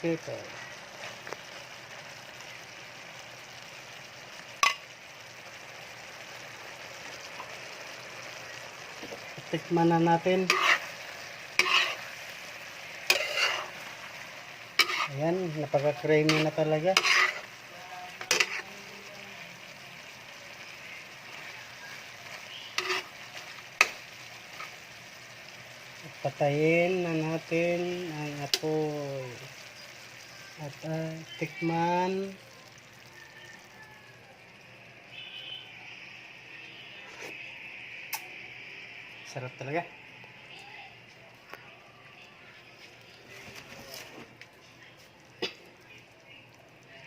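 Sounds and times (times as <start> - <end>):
sauce simmering and sizzling in pan: 0.0 - 47.0.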